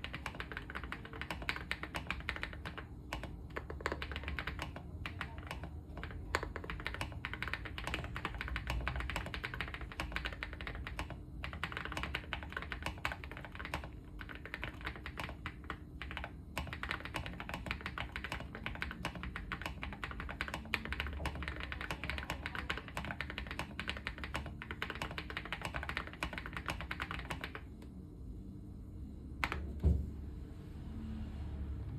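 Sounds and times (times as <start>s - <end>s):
mechanical keyboard typing: 0.0s - 27.7s, 29.4s - 29.6s.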